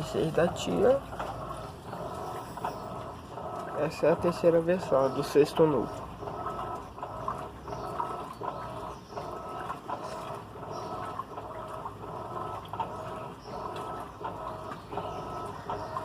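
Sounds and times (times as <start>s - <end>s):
washing machine motor hum: 0.0s - 16.0s
water sloshing: 0.0s - 16.0s.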